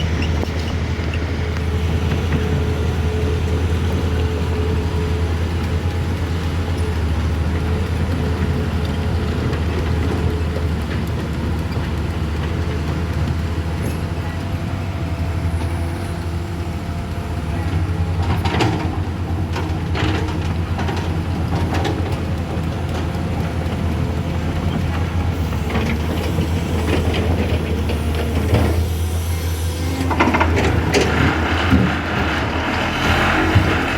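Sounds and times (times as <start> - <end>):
large vehicle engine rumbling: 0.0 - 33.9.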